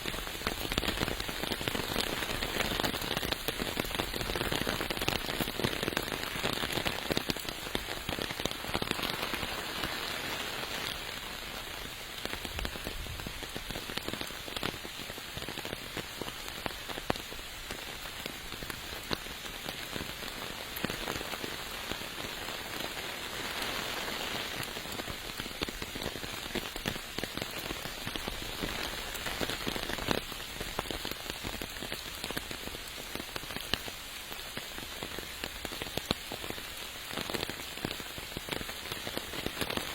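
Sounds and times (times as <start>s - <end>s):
rain falling: 0.0s - 39.9s
raindrops ticking close by: 0.0s - 39.9s.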